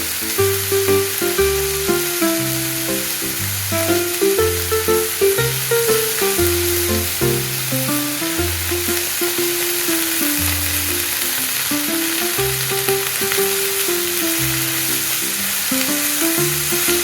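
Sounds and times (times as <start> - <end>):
background music: 0.0 - 17.0
food sizzling in hot oil: 0.0 - 17.0.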